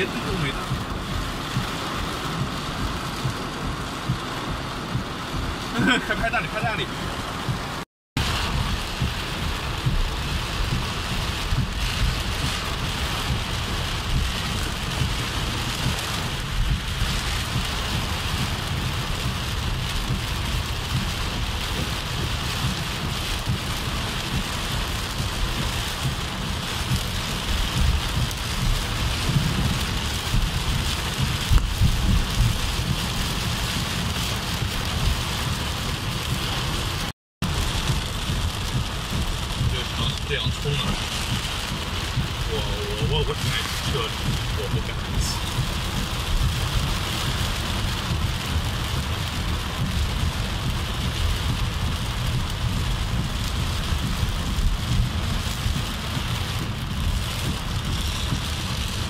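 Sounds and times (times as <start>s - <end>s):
heavy rain on car roof: 0.0s - 59.0s
steady low rumble: 0.0s - 59.0s.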